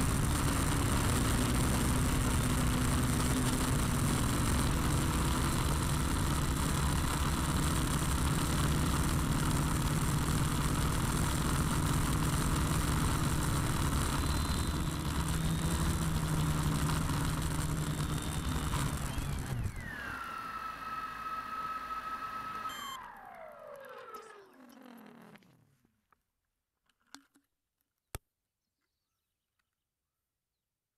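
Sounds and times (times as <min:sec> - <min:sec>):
drone propellers whirring: 0:00.0 - 0:25.4.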